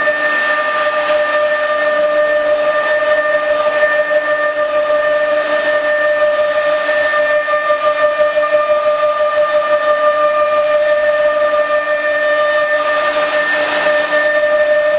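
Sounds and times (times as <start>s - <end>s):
router high-pitched whine: 0.0s - 14.9s.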